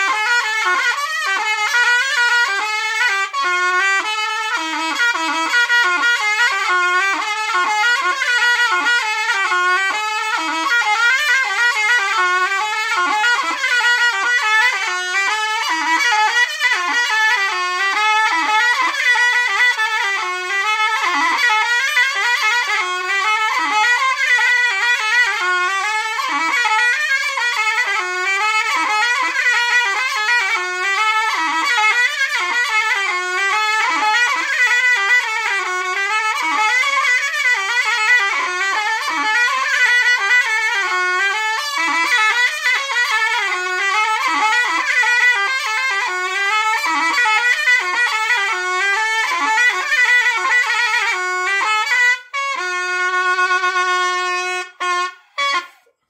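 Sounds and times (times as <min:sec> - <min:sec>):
shawm playing folk melody: 0:00.0 - 0:56.0.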